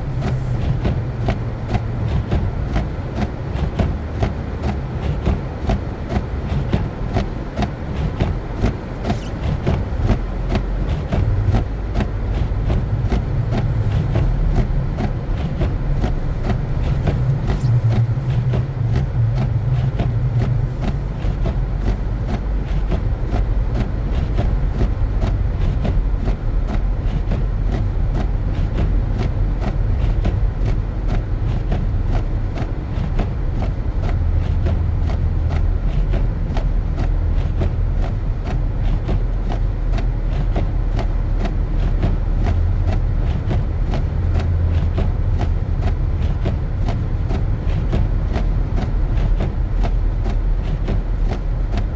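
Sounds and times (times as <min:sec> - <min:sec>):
car engine and road noise: 0:00.0 - 0:51.9
regular clicks and ticks: 0:00.1 - 0:51.9.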